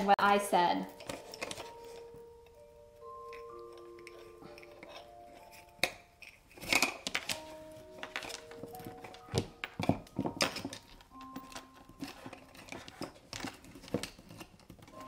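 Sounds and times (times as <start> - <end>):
soft slow background music: 0.0 - 15.0.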